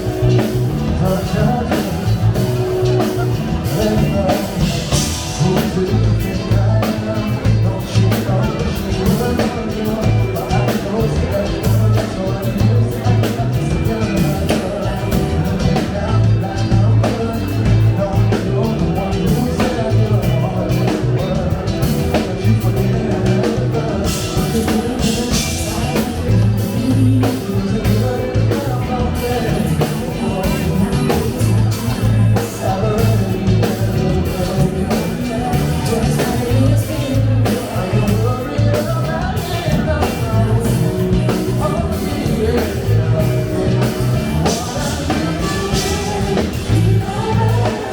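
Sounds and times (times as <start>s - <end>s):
funk band playing: 0.0s - 47.9s
person singing: 0.0s - 47.9s.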